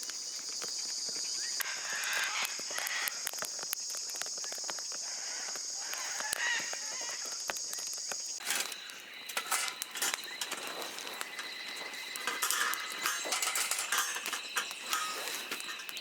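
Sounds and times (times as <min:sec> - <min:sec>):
high insect drone: 0:00.0 - 0:16.0
bird calls: 0:01.1 - 0:16.0.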